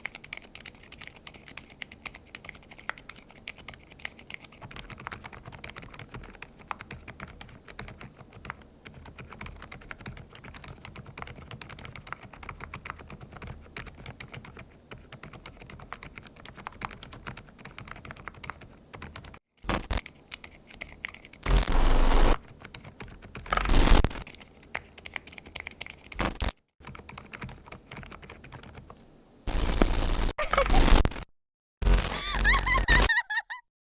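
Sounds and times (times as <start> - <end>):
fast typing on mechanical keyboard: 0.0 - 21.6, 22.4 - 29.0.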